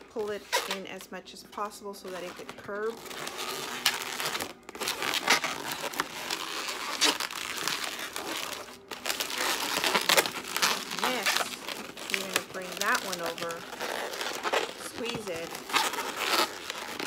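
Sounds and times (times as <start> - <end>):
balloons rubbing and squeaking: 0.0 - 1.0, 1.6 - 17.0.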